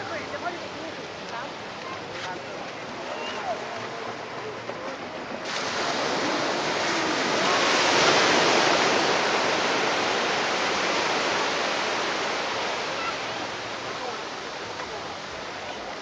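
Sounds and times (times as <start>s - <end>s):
wave breaking on beach: 0.0s - 16.0s.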